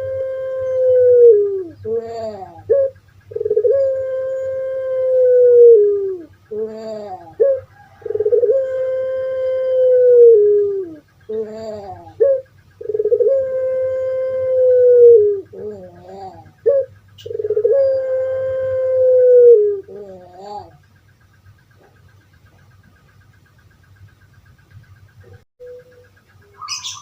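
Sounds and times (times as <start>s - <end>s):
wavering dove coos: 0.0s - 22.1s, 25.2s - 27.0s
dove calling: 0.0s - 27.0s.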